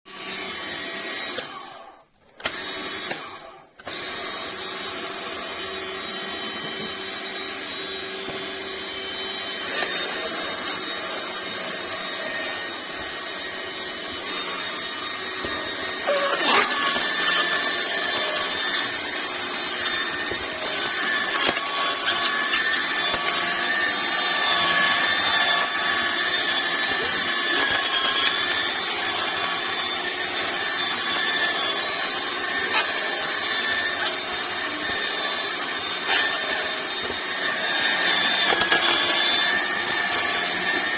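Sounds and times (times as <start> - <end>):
juicer motor humming whine: 0.1 - 40.9.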